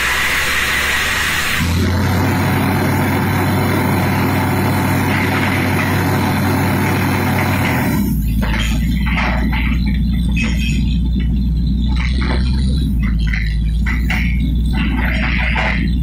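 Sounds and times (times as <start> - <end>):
drilling rig engine running: 0.0 - 16.0.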